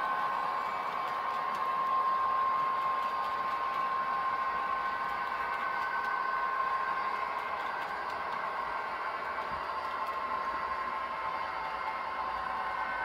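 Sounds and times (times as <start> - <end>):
model train whine: 0.0 - 13.0.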